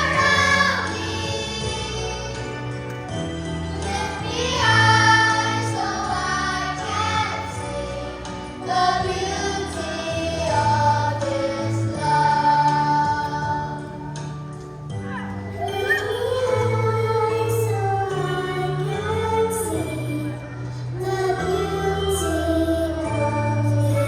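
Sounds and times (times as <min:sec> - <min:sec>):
children's choir singing: 0:00.0 - 0:24.0
musical accompaniment low notes: 0:00.0 - 0:24.0.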